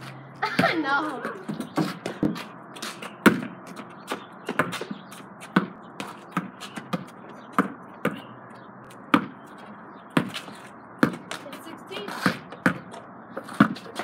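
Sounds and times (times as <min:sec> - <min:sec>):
basketball bouncing on hard ground: 0:00.4 - 0:14.0.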